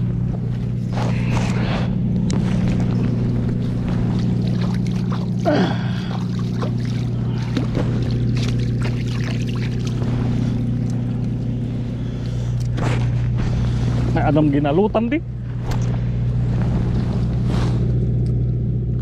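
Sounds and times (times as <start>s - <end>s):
water splashing and sloshing: 0.0s - 14.3s, 15.3s - 17.9s
steady low hum: 0.0s - 19.0s.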